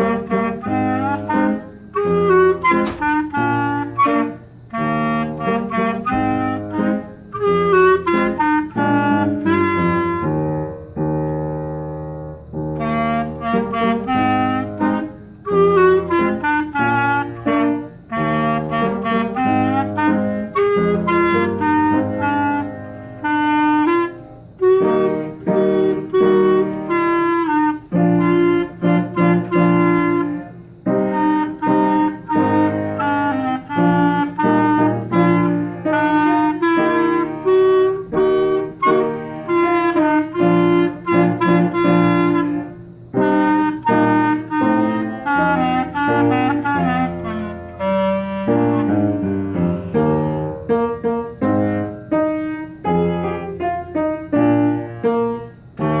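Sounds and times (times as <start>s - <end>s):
band accompaniment with piano: 0.0s - 11.0s, 12.3s - 56.0s
clarinet playing a lively melody: 0.0s - 11.0s, 12.6s - 51.0s.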